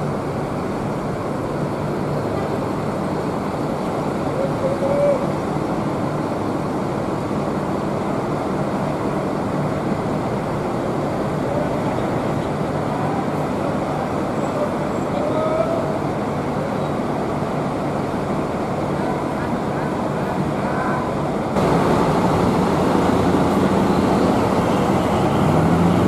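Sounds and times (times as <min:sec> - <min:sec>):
idling bus engines humming: 0:00.0 - 0:26.0
rumble and hiss: 0:00.0 - 0:26.0.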